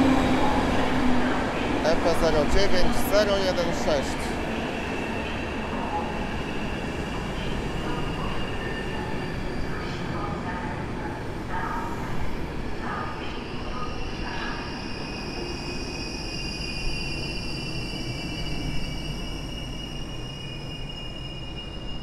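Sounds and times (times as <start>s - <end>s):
train coaches rumbling past: 0.0s - 22.0s.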